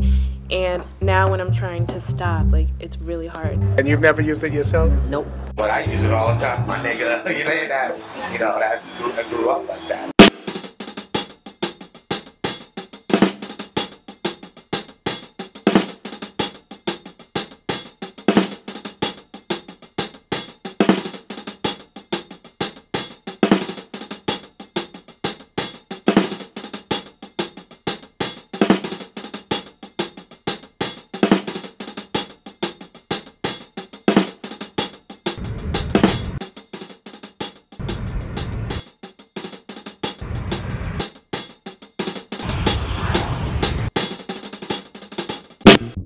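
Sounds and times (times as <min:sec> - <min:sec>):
drum kit beat: 0:00.0 - 0:07.0, 0:10.1 - 0:46.0.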